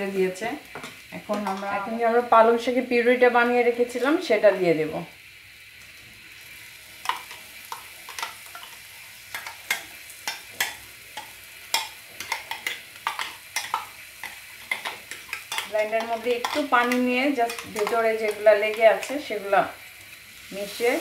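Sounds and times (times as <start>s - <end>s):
light sizzle: 0.0s - 21.0s.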